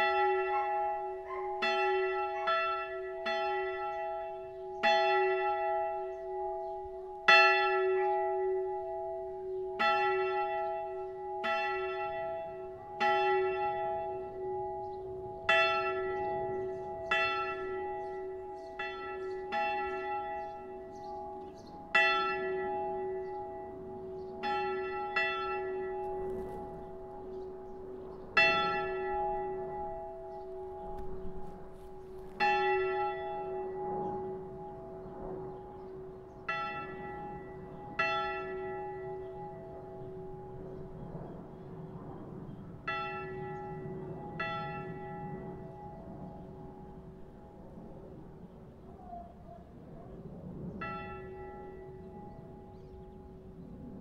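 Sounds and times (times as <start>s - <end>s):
church bell ringing: 0.0s - 49.7s, 50.8s - 54.0s.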